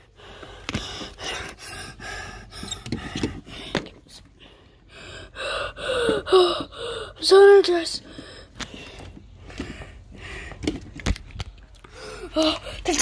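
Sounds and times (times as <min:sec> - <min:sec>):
person panting: 0:00.0 - 0:07.3, 0:08.0 - 0:10.8, 0:11.8 - 0:13.0.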